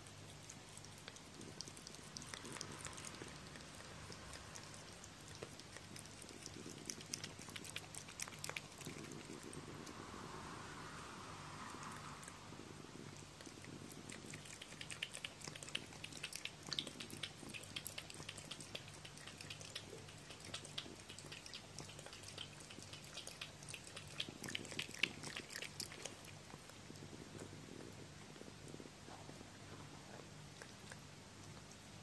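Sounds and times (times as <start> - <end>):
cat lapping water: 0.0 - 10.1, 11.7 - 28.8.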